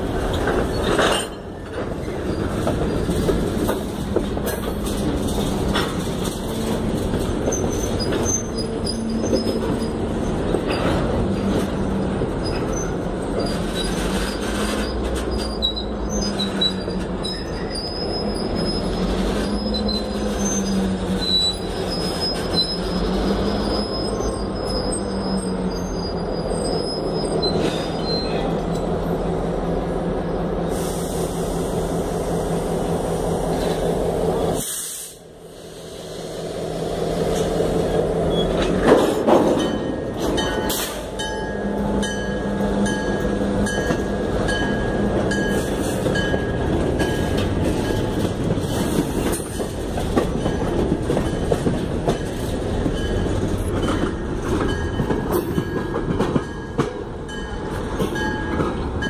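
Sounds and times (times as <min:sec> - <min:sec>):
train wheels grinding on rails: 0:00.0 - 0:59.0.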